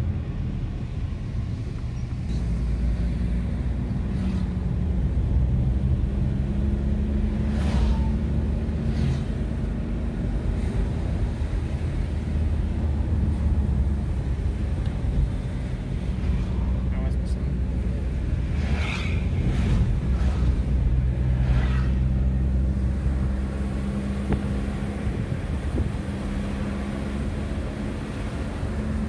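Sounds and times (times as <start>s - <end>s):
car engine and tyre hum: 0.0s - 29.0s.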